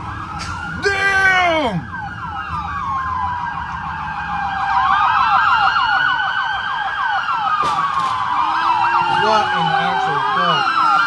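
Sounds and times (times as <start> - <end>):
police siren wail: 0.0 - 11.0
police siren yelp: 0.0 - 11.0.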